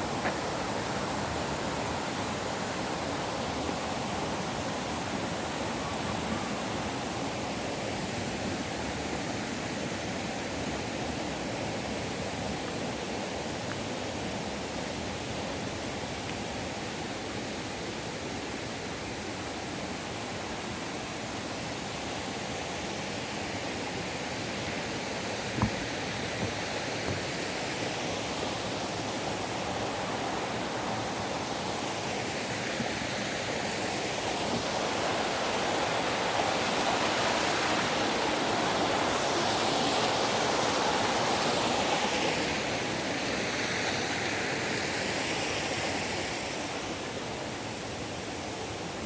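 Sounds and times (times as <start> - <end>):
forest stream rushing: 0.0 - 49.0.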